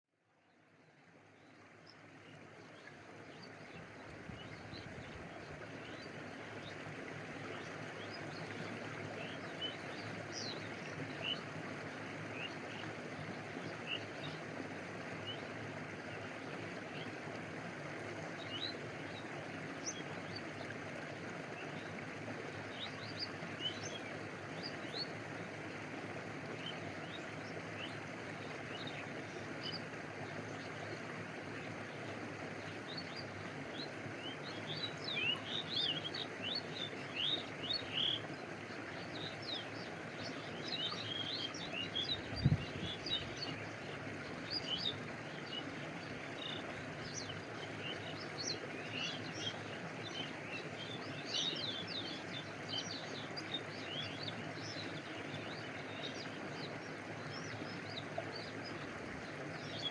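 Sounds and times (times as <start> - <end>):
stream water running: 0.3 - 59.9.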